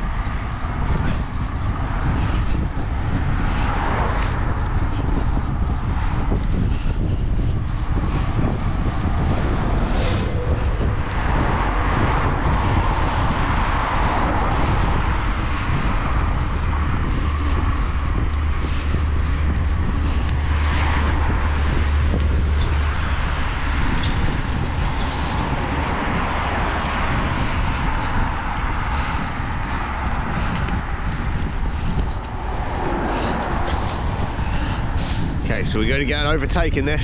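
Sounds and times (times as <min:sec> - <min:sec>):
road noise: 0:00.0 - 0:37.0
wind rumble on microphone: 0:00.0 - 0:37.0.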